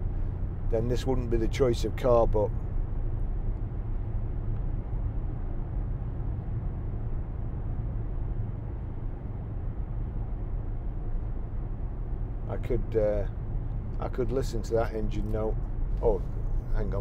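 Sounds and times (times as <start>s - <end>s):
car engine low rumble: 0.0s - 17.0s
road noise: 0.0s - 17.0s.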